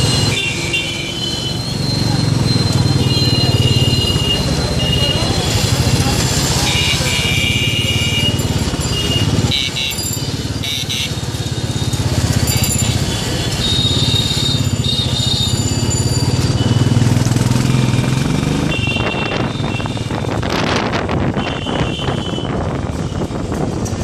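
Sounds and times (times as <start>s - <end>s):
street traffic: 0.0s - 24.0s
motorcycle engine running: 2.2s - 22.0s.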